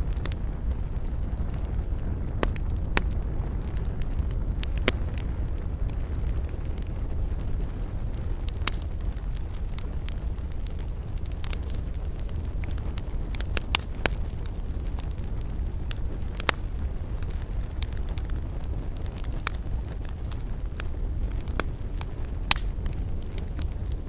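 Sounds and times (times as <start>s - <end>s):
fire pops and snaps: 0.0s - 24.0s
wood fire crackling: 0.0s - 24.0s.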